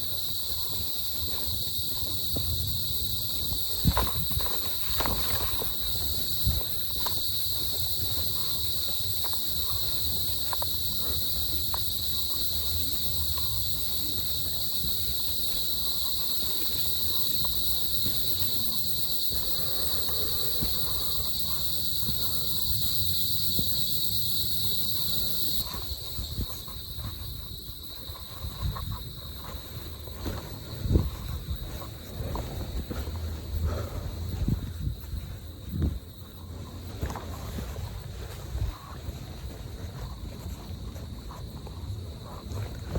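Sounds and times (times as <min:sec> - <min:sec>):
high-pitched insect drone: 0:00.0 - 0:39.1.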